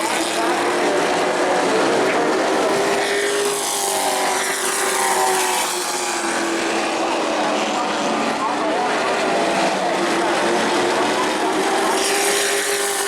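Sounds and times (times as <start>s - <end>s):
race truck engines passing: 0.0s - 13.0s.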